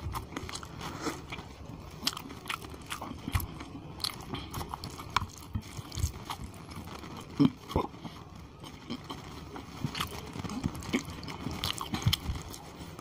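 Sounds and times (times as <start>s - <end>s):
fingers squishing through rice: 0.0s - 13.0s
chewing with wet mouth clicks: 2.0s - 12.7s.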